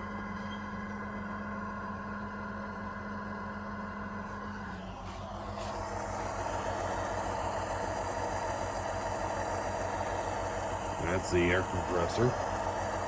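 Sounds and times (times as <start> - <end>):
locomotive air compressor running: 0.0 - 13.0
model diesel locomotive engine: 0.0 - 13.0.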